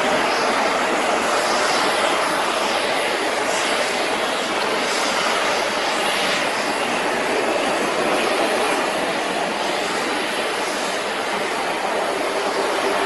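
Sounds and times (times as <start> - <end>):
jet engines steady noise: 0.0 - 13.0.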